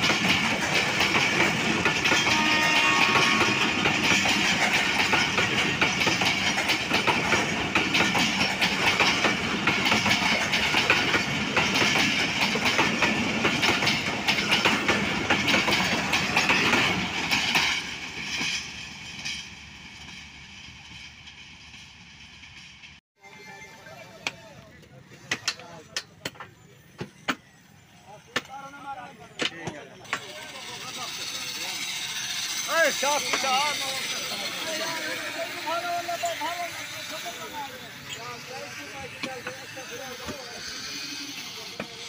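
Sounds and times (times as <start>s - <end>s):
train wheels clattering over joints: 0.0s - 23.0s, 28.3s - 42.0s.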